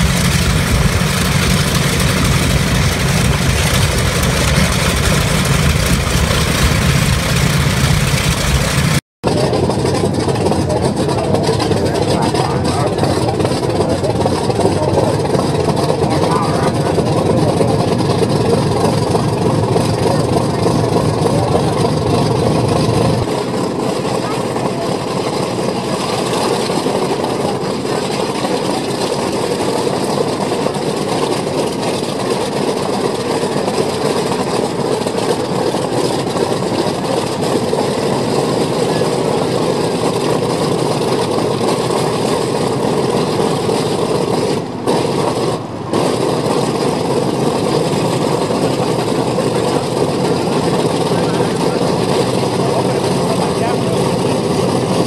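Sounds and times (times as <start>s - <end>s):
radial aircraft engines idling: 0.0s - 55.0s.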